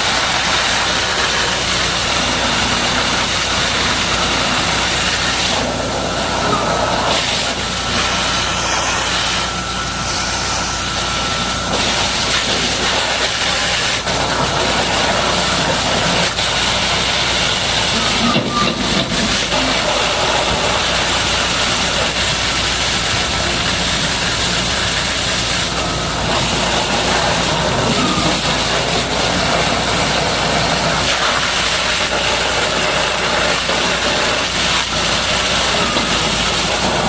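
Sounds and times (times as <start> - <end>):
high-pressure water jet hissing: 0.0 - 37.0.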